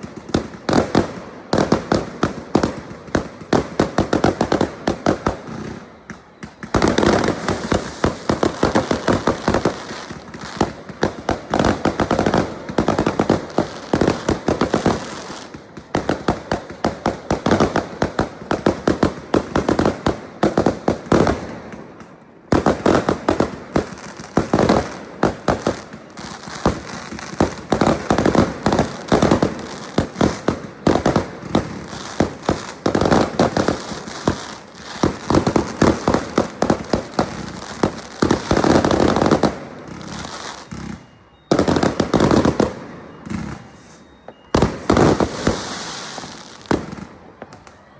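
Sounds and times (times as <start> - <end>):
fireworks rapid bangs: 0.0 - 47.5.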